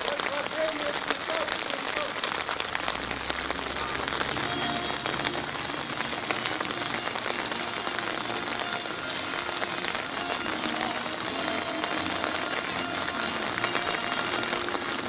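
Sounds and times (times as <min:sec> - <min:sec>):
rain on umbrellas and paving: 0:00.0 - 0:15.0.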